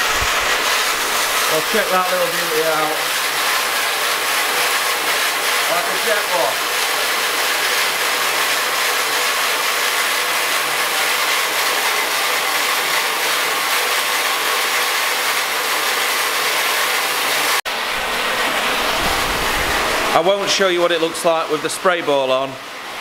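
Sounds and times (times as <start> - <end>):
rushing water noise: 0.0 - 23.0
water jet spraying against metal wall: 0.0 - 23.0.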